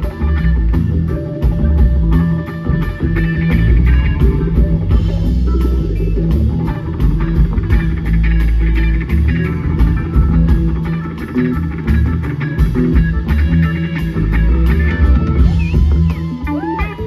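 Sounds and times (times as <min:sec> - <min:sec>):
blues-rock band playing: 0:00.0 - 0:17.0
electric guitar sliding notes: 0:00.0 - 0:17.0.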